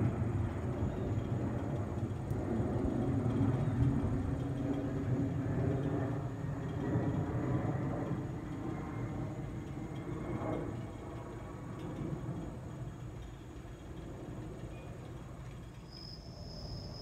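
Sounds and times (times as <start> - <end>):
jet engine rumble overhead: 0.0 - 17.0.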